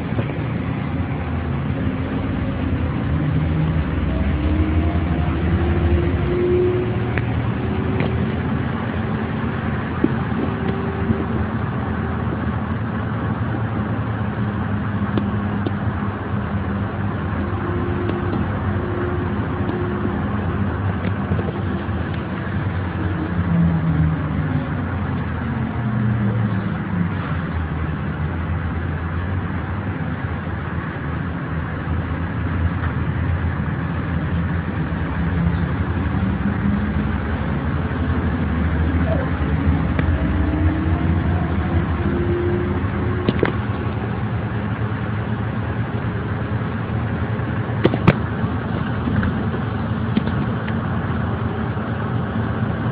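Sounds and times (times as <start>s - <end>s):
bus engine running: 0.0s - 52.9s.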